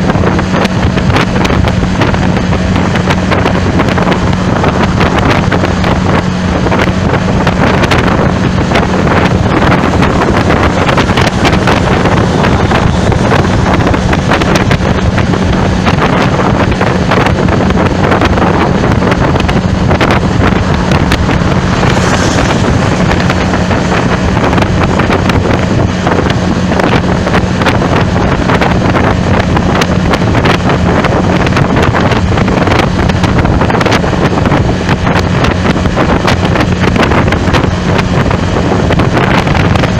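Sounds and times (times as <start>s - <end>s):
low engine drone: 0.0s - 39.9s
wind buffeting microphone: 0.0s - 39.9s.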